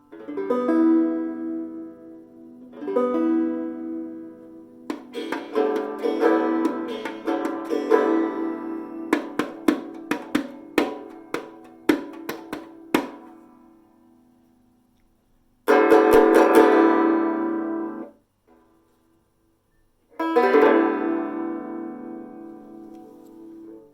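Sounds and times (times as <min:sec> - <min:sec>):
banjo picking and strumming: 0:00.0 - 0:13.9, 0:15.6 - 0:18.2, 0:20.1 - 0:23.9.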